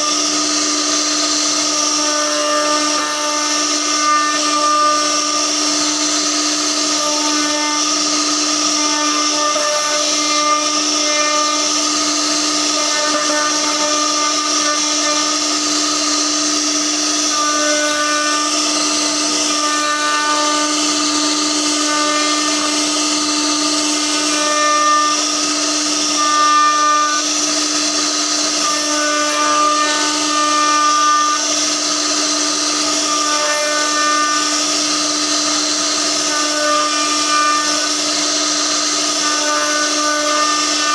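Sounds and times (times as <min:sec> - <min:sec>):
bit carving wood: 0:00.0 - 0:40.9
router spindle whining: 0:00.0 - 0:40.9.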